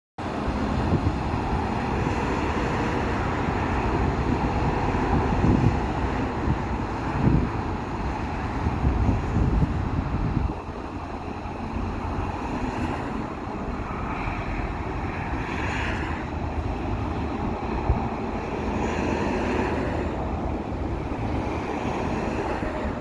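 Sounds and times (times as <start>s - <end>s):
highway traffic noise: 0.2s - 23.0s
wind buffeting microphone: 0.2s - 23.0s.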